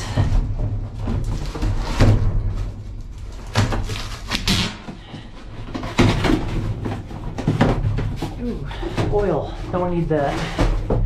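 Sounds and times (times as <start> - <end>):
debris knocking and clattering: 0.0 - 11.0.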